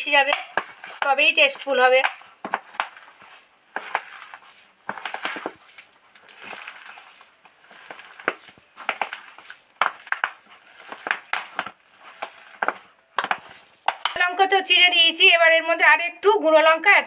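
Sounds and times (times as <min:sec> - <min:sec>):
hand kneading crunchy mixture: 0:00.0 - 0:14.2.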